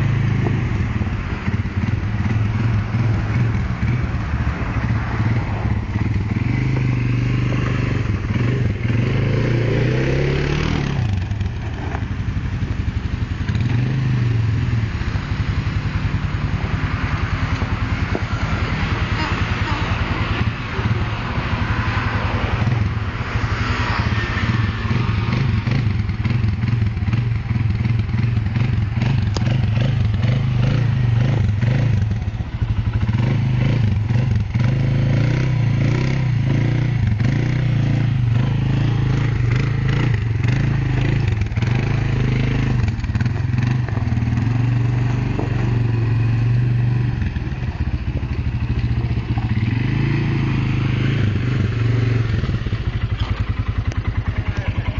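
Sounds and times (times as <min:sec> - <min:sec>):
quad bike engine droning: 0:00.0 - 0:54.9.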